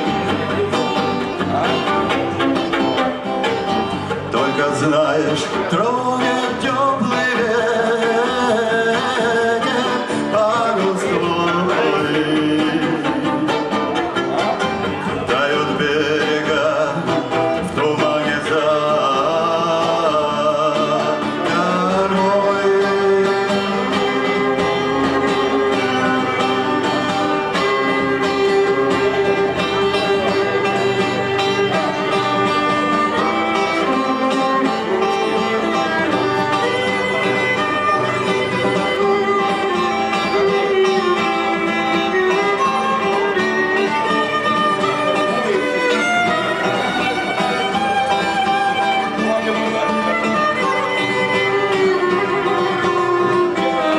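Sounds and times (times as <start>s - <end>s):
guitar accompaniment: 0.0s - 53.9s
violin melody: 0.0s - 53.9s
man singing: 3.6s - 53.9s.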